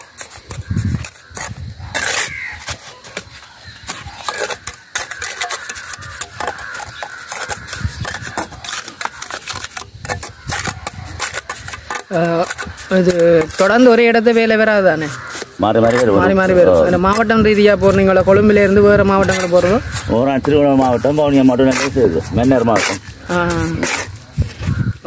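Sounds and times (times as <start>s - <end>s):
trowel scraping and tapping mortar: 0.0s - 25.0s.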